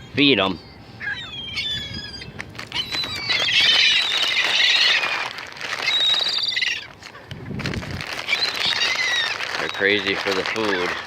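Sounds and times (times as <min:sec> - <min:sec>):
gulls squawking: 0:00.0 - 0:07.1, 0:08.1 - 0:11.0.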